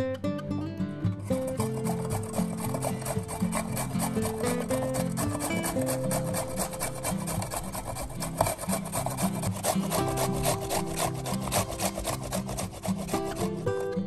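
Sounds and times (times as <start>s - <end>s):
carrot rasping on metal grater: 1.3s - 14.0s.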